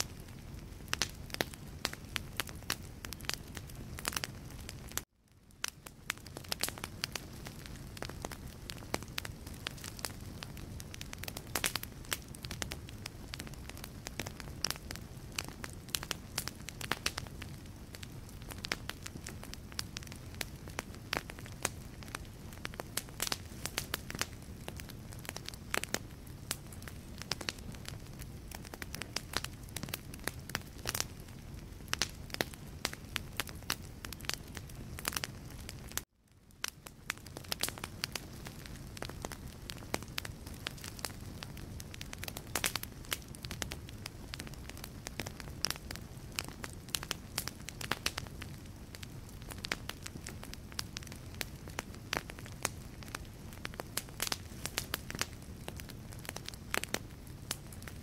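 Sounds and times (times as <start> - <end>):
logs burning with crackles: 0.0 - 58.0.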